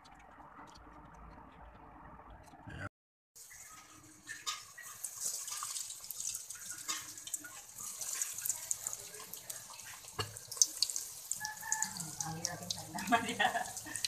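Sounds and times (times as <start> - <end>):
chicken deep-frying in oil: 0.0 - 2.8, 3.4 - 14.0.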